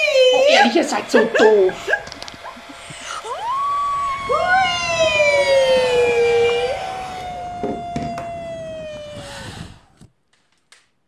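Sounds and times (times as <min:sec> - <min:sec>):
voices howling like wind: 0:00.0 - 0:10.1.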